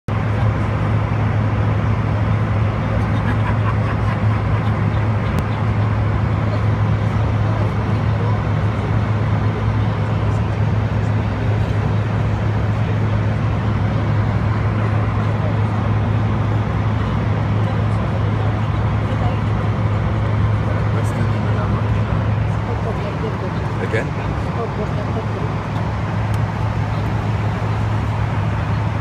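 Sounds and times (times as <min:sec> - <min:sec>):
airliner cabin drone: 0:00.1 - 0:29.0
strong low hum: 0:00.1 - 0:29.0.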